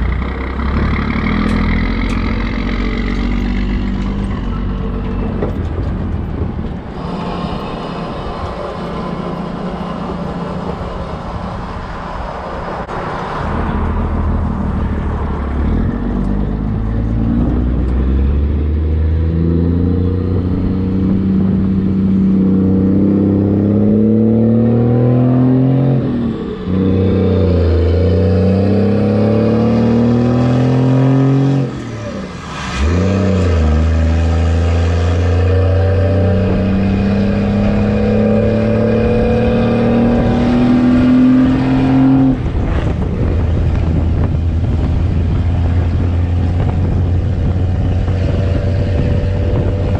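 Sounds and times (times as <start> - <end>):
diesel engine accelerating: 0.0 - 49.9.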